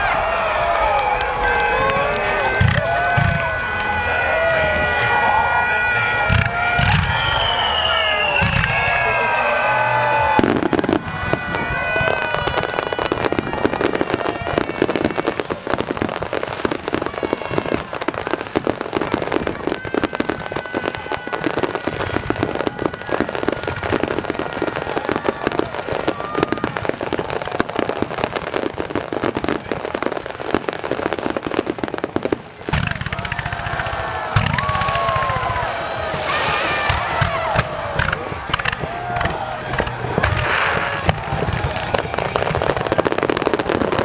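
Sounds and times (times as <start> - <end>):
fireworks bursts and crackling: 0.0 - 44.0.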